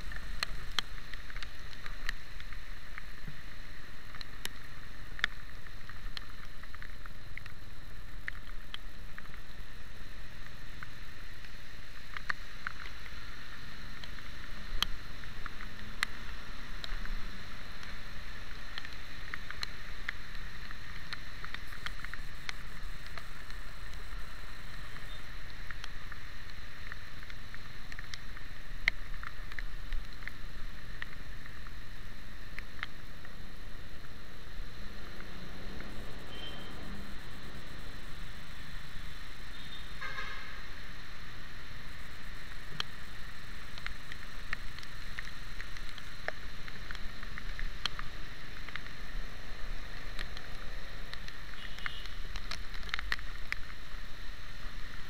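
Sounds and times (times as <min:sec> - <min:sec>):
raindrops ticking on camera: 0:00.0 - 0:55.0
wet road noise: 0:00.0 - 0:55.0.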